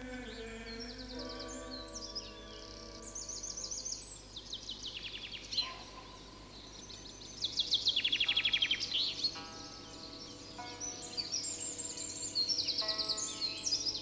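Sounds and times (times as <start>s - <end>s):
songbirds trilling: 0.0s - 14.0s.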